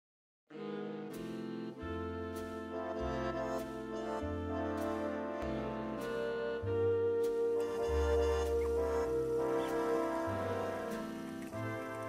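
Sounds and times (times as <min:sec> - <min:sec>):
bass notes: 0:00.6 - 0:12.0.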